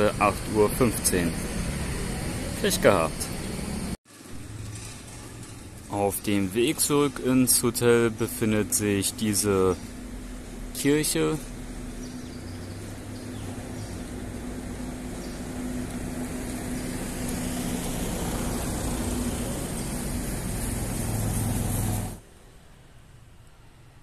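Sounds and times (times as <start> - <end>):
traffic engine hum: 0.0 - 23.2
road noise: 0.0 - 24.0.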